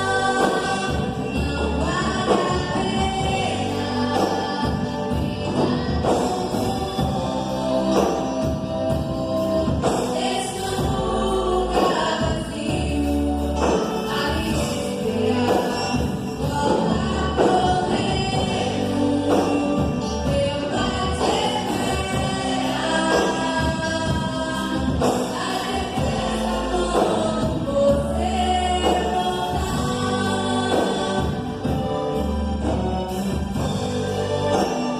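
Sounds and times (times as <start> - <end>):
choir singing: 0.0 - 34.9
gospel band playing: 0.0 - 34.9.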